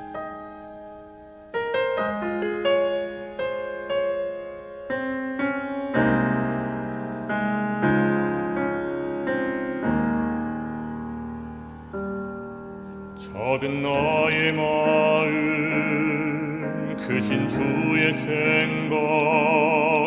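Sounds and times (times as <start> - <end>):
solo piano chords: 0.0 - 20.0.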